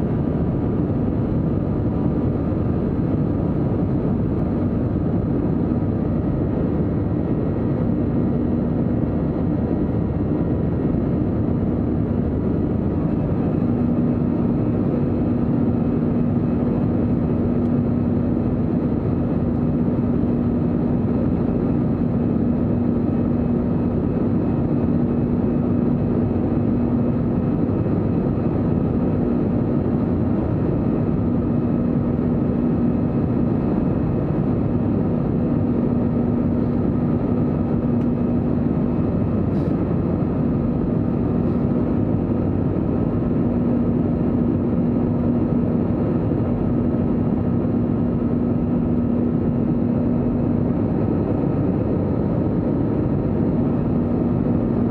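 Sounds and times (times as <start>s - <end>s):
constant low hum: 0.0s - 54.9s
jet engine and airflow roar: 0.0s - 54.9s.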